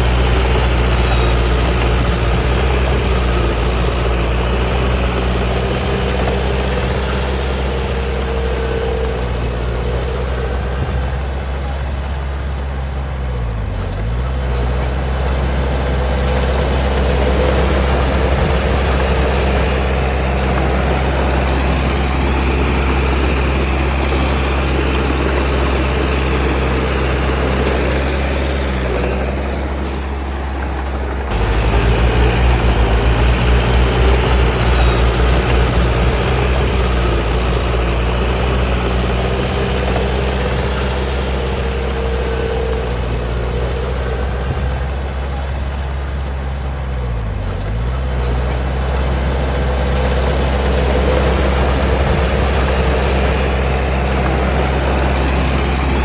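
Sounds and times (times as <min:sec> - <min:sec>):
engine with rapid low pulsing: 0:00.0 - 0:56.0
heavy diesel engine running: 0:00.0 - 0:56.0.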